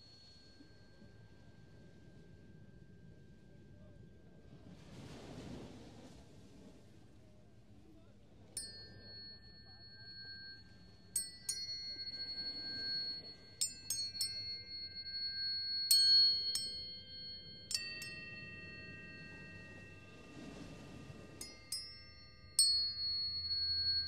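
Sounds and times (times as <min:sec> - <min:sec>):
tuning forks ringing: 0:00.0 - 0:04.8, 0:08.6 - 0:24.0.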